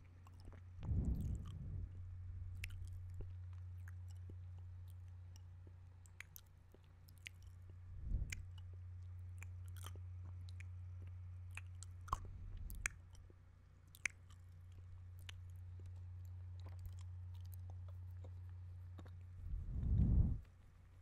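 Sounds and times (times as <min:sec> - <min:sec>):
steady low hum: 0:00.0 - 0:21.0
wet mouth sounds: 0:00.2 - 0:05.2, 0:06.0 - 0:08.8, 0:09.4 - 0:16.0, 0:16.6 - 0:20.5.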